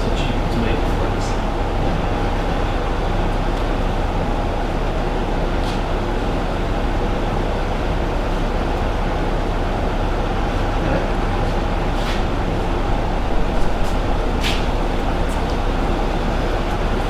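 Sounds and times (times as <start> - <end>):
mechanical rumble: 0.0 - 17.0.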